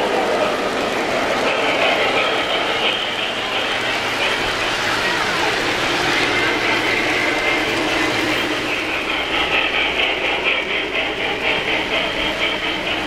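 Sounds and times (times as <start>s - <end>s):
model train wheels rumbling: 0.0s - 13.0s.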